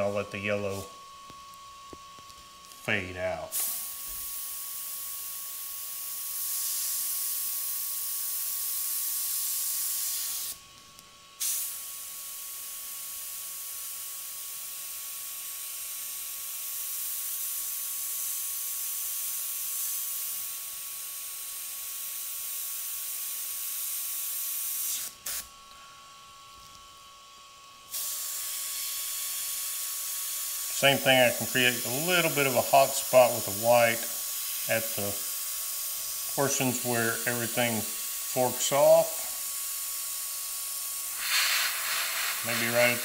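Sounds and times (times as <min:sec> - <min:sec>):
airbrush air hiss: 0:00.0 - 0:01.0, 0:03.4 - 0:10.6, 0:11.4 - 0:26.0, 0:27.9 - 0:43.0.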